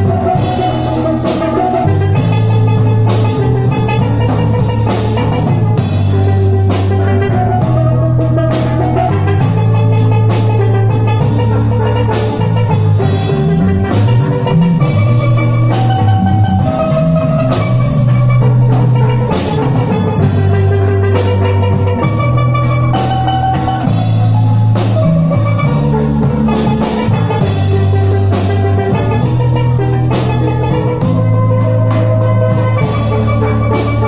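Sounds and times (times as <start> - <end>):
drum kit: 0.0 - 34.0
guitar: 0.0 - 34.0
low bass line: 0.0 - 34.0
steel pans playing melody: 0.0 - 34.0.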